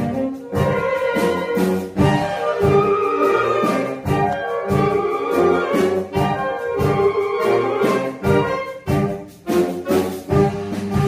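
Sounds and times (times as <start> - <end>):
saxophone ensemble playing chords: 0.0 - 11.0.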